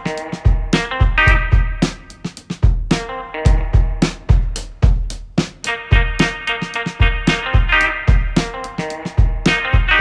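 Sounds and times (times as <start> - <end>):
drum beat: 0.0 - 10.0
funky guitar: 0.0 - 10.0.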